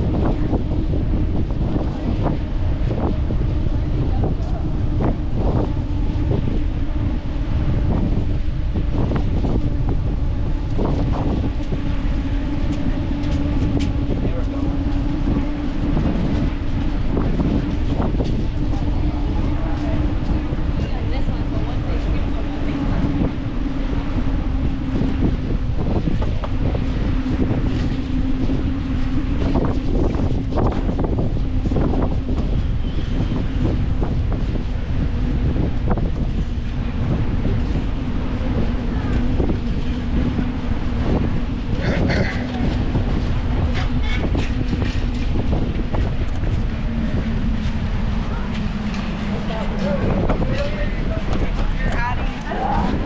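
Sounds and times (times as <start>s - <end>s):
low hum: 0.0s - 53.0s
wind buffeting microphone: 0.0s - 53.0s.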